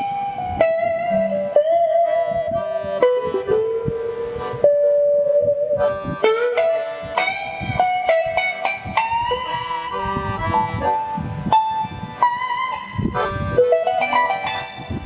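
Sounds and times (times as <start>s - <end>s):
accordion melody: 0.0s - 15.0s
plucked guitar: 0.0s - 15.0s.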